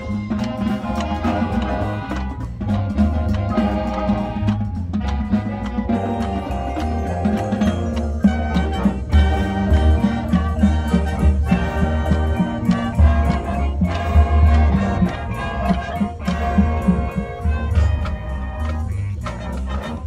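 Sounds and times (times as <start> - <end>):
brass and wind chords: 0.0 - 20.0
drums and percussion: 0.0 - 20.0.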